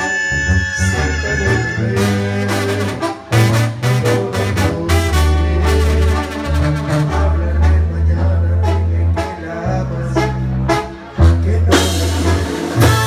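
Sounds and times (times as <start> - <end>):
brass band playing: 0.0 - 13.0
tuba bass line: 0.0 - 13.0.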